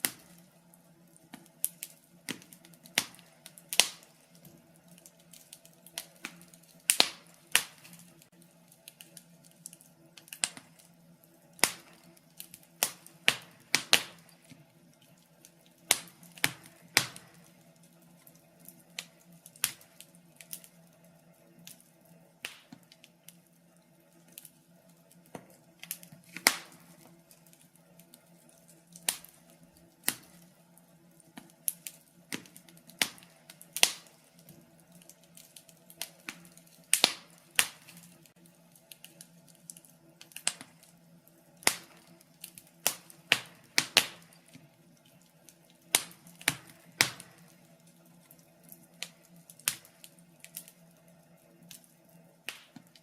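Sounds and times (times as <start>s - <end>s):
logs crackling in a fireplace: 0.0s - 53.0s.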